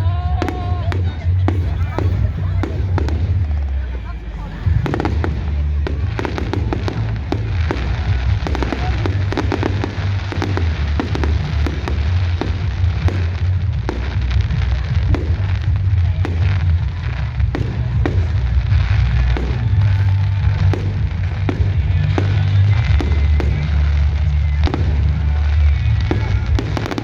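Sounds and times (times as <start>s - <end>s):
fireworks bangs and crackles: 0.0s - 27.0s
heavy low rumble: 0.0s - 27.0s
music: 0.0s - 27.0s.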